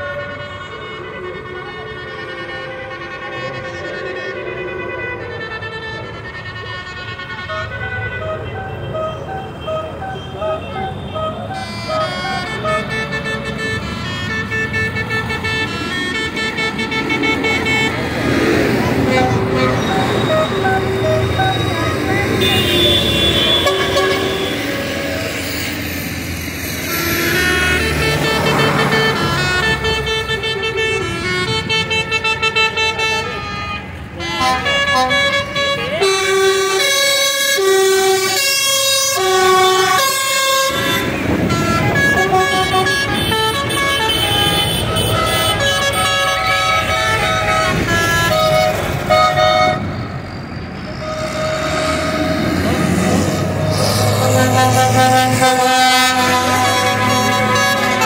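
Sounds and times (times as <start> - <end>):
vehicle horns sounding: 0.0 - 26.0, 26.6 - 58.0
diesel engines running: 0.0 - 58.0.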